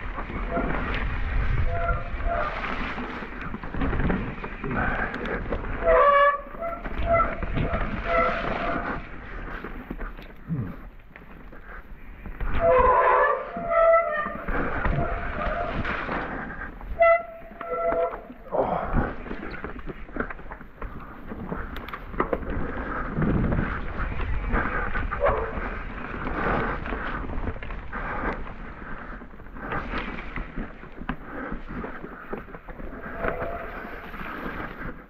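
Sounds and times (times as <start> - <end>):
bike frame rattling: 0.0 - 35.0
bike tyres rolling over mud: 0.0 - 35.0
wind rumble on microphone: 0.0 - 35.0.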